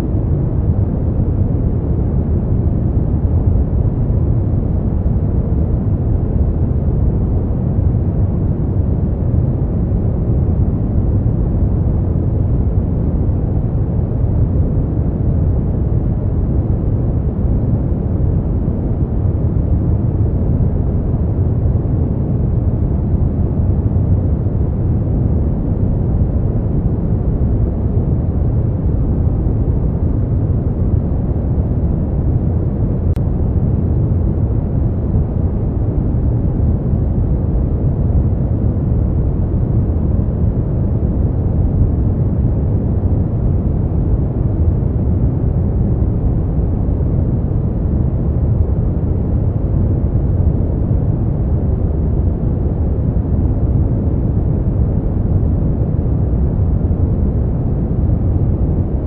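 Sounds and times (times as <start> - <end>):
deep dark white noise hiss: 0.0 - 59.0.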